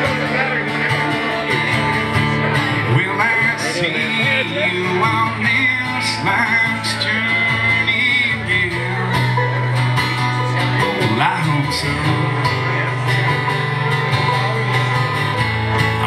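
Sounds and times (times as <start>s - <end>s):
man singing: 0.0s - 15.3s
acoustic guitars strumming: 0.0s - 16.0s
banjo picking: 0.0s - 16.0s.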